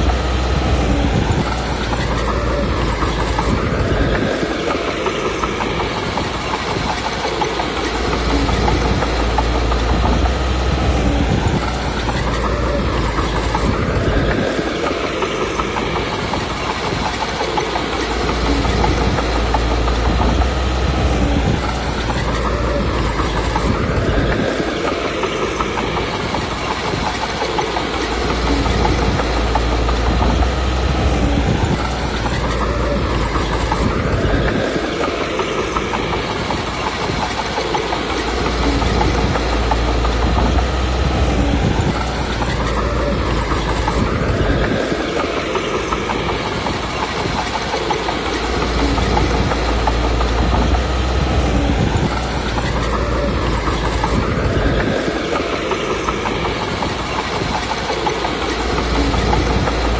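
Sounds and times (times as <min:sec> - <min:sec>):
bulldozer diesel engine working hard: 0:00.0 - 0:59.9.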